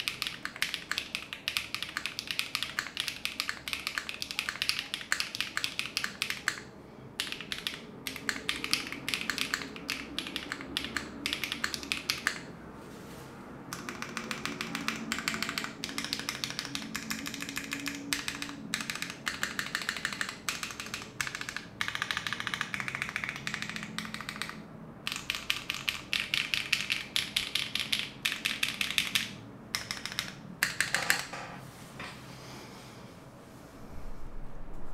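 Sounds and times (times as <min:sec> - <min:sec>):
typing on mechanical keyboard: 0:00.0 - 0:12.5, 0:13.7 - 0:31.4.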